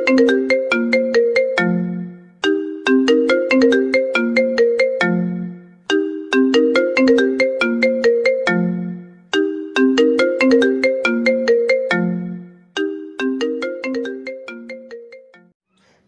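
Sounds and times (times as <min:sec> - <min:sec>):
phone ringtone melody: 0:00.0 - 0:15.6.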